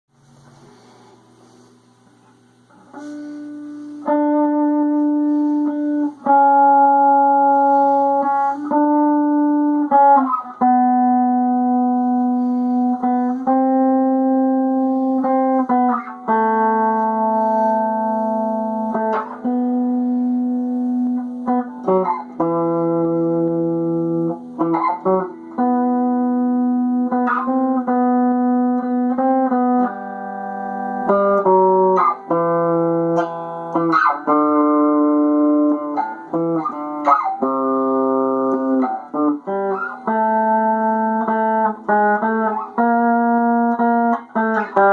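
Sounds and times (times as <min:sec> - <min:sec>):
long held instrumental notes: 0:02.5 - 0:44.9.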